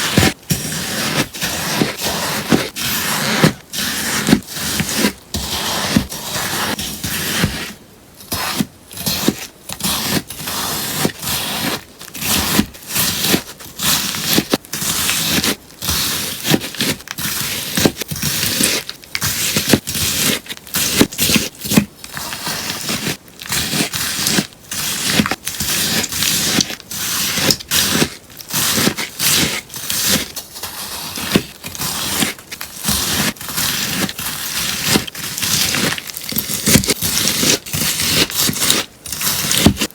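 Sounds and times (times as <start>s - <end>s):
sponge being cut crunchily: 0.0s - 39.9s.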